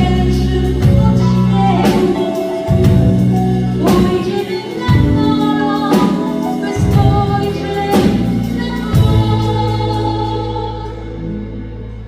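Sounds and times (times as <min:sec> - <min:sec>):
bass: 0:00.0 - 0:12.0
keyboard chords: 0:00.0 - 0:12.0.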